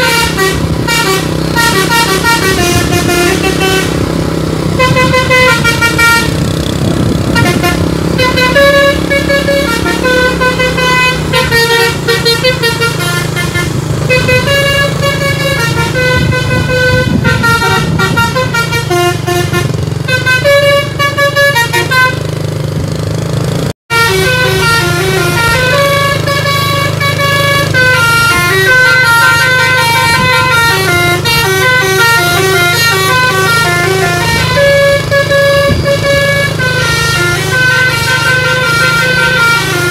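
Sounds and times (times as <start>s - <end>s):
multi-tone air horn tune: 0.0s - 22.4s, 23.9s - 39.9s
bus engine humming: 0.0s - 39.9s.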